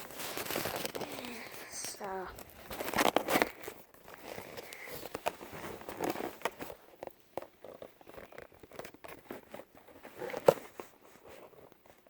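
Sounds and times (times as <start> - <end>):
handling clicks and rustles: 0.0 - 12.0.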